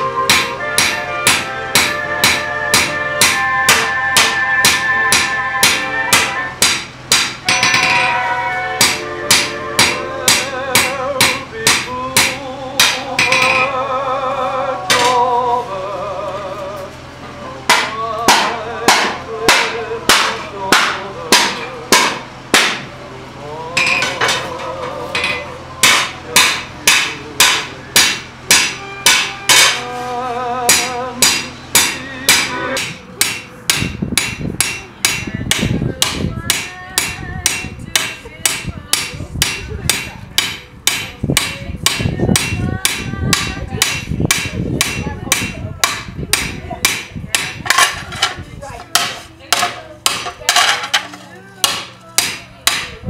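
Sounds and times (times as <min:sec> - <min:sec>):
hammer striking steel on anvil: 0:00.0 - 0:13.8, 0:17.7 - 0:22.9, 0:23.8 - 0:24.5, 0:25.2 - 0:29.9, 0:30.7 - 0:48.4, 0:49.0 - 0:53.0.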